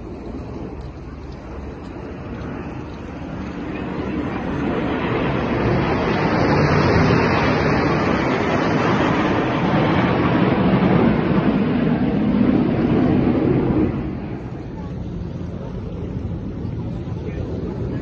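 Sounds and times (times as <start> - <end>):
jet engines roaring past: 0.0 - 18.0.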